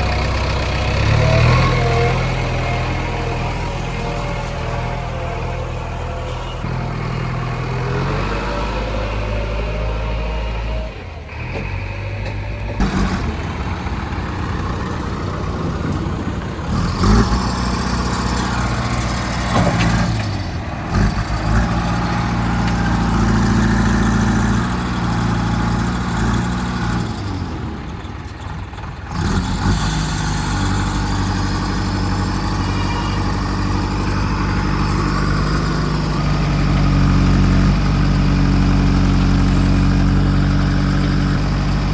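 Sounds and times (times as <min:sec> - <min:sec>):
diesel engines idling and revving: 0:00.0 - 0:41.9.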